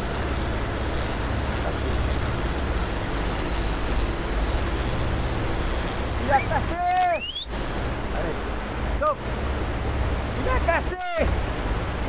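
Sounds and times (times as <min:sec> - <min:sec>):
boat engine humming: 0:00.0 - 0:12.0
wake water rushing: 0:00.0 - 0:12.0.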